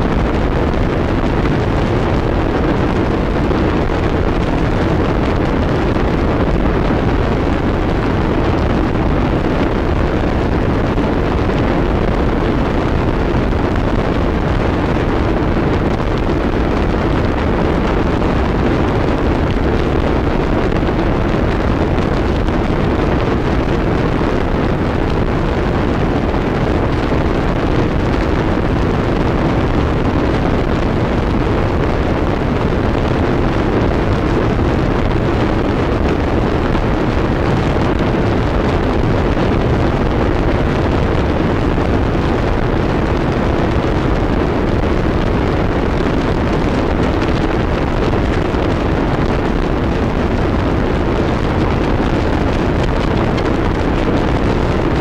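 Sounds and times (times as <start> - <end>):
harsh noise wall: 0.0 - 55.0.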